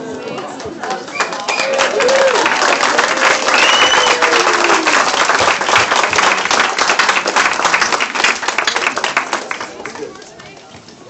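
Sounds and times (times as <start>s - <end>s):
audience clapping: 0.2s - 11.0s.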